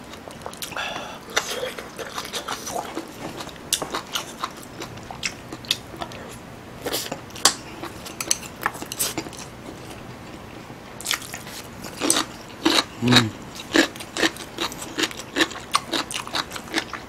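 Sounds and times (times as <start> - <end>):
close chewing: 0.1 - 17.0.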